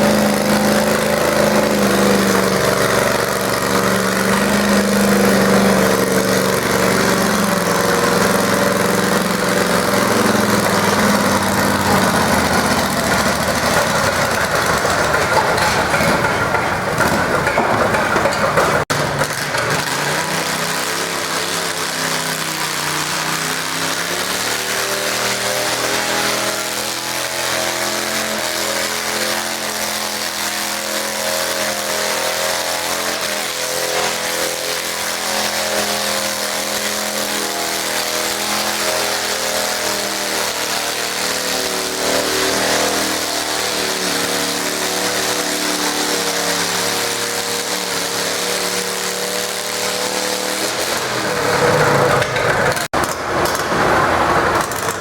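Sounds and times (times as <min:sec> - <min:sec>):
engine running slowly: 0:00.0 - 0:55.0
garden tractor engine running hard: 0:00.0 - 0:55.0.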